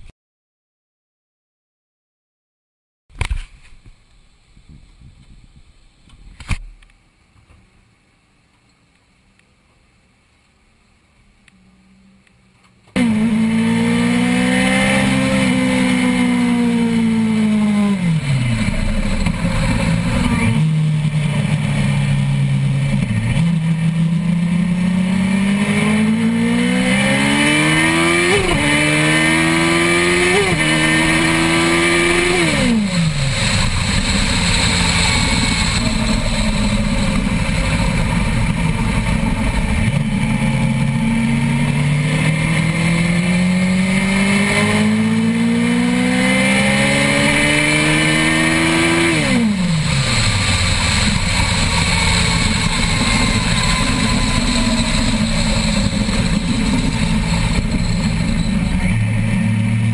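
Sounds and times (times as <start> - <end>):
motorcycle engine at speed: 11.9 - 59.9.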